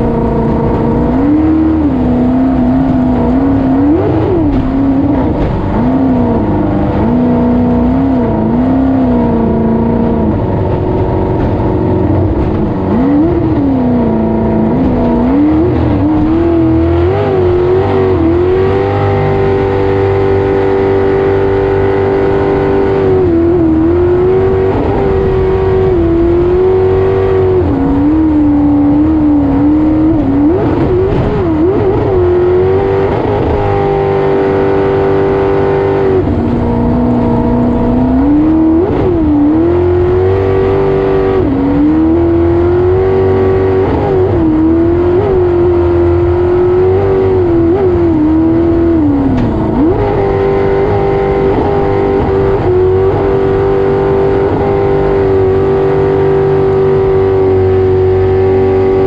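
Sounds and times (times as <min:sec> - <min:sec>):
jet boat engine at high revs: 0:00.0 - 0:59.0.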